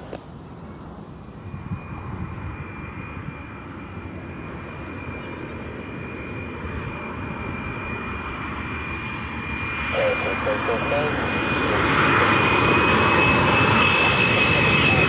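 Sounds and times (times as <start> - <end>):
aircraft engines running: 0.0 - 15.0.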